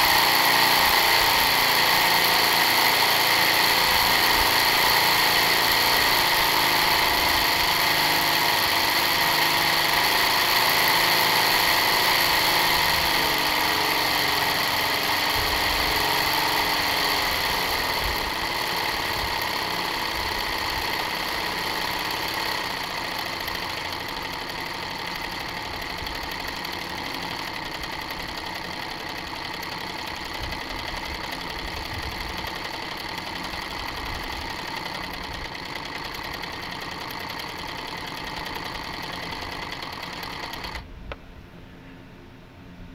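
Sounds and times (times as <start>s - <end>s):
diesel engine running: 0.0s - 40.8s.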